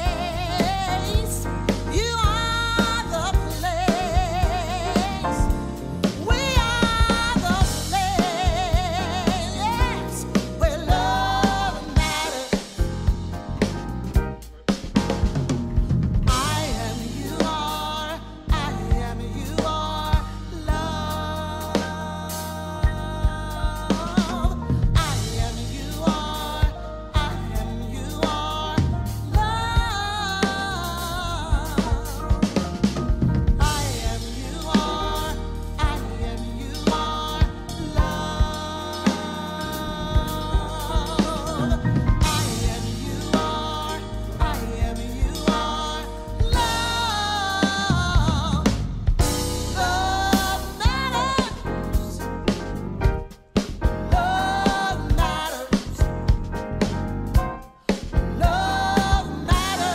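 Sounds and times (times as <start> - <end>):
person singing with vibrato: 0.0 - 13.3, 16.3 - 32.6, 33.6 - 52.6, 53.6 - 56.4, 57.7 - 59.9
drum kit beat: 0.0 - 59.9.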